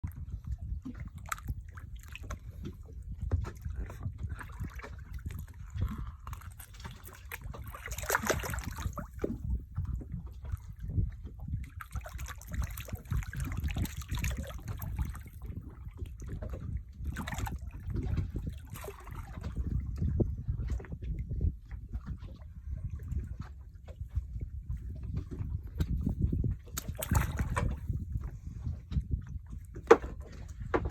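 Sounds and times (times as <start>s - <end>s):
seawater sloshing and splashing: 0.0s - 30.9s
wind buffeting microphone: 0.0s - 30.9s.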